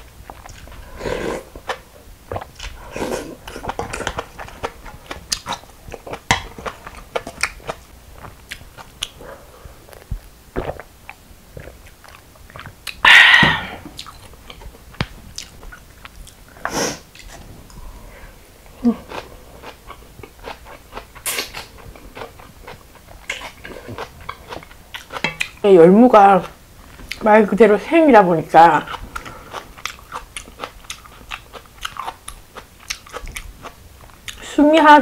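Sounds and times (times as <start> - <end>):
chewing and crunching food: 0.0 - 13.0, 13.9 - 17.8, 18.6 - 25.6, 28.6 - 34.6.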